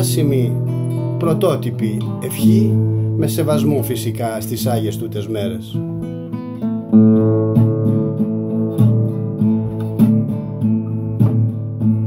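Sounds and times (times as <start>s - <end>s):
classical guitar strumming chords: 0.0s - 12.0s.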